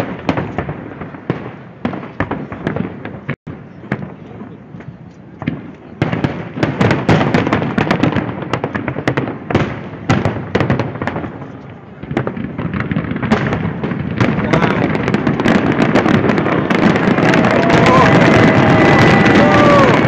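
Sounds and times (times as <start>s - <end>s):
fireworks booms and crackles: 0.0s - 20.0s.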